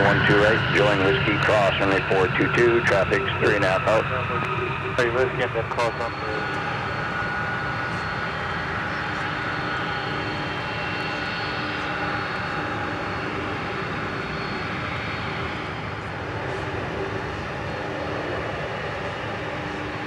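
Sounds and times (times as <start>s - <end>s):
jet engines rumbling and whining: 0.0s - 20.0s.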